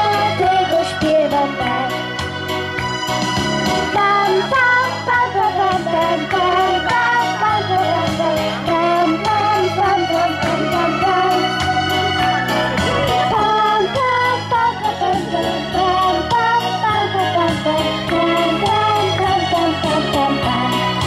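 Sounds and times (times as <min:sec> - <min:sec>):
backing music with bass and keyboard: 0:00.0 - 0:21.0
girls singing: 0:03.9 - 0:20.9.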